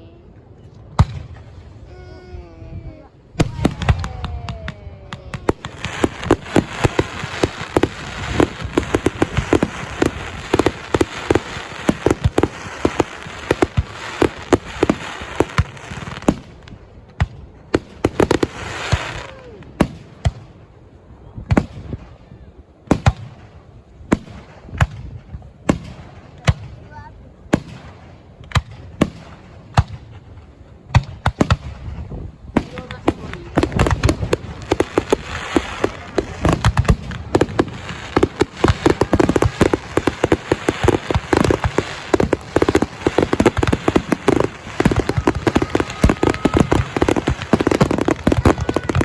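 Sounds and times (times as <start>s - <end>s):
fireworks bursting and crackling: 3.0s - 20.8s, 21.4s - 49.0s.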